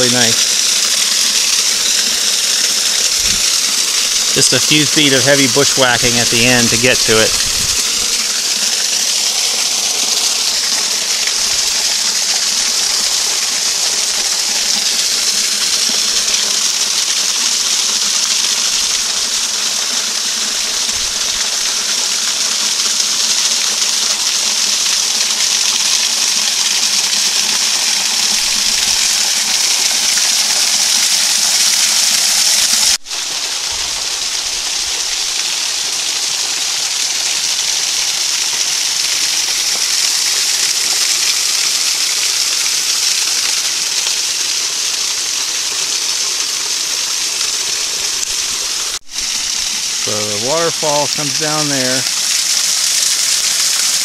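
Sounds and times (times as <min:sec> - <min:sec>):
waterfall rushing: 0:00.0 - 0:45.3, 0:46.3 - 0:54.0.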